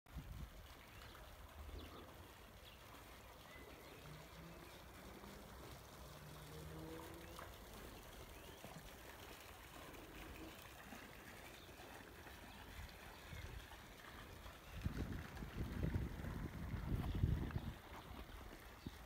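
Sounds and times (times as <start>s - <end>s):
small fountain trickling and splashing: 0.1s - 19.0s.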